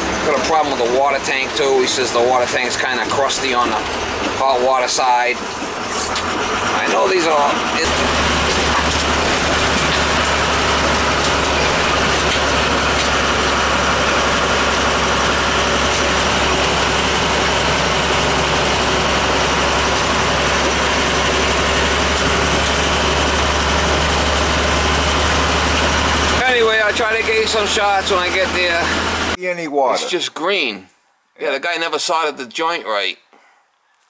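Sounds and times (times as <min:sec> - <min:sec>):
low engine hum: 0:00.0 - 0:29.4.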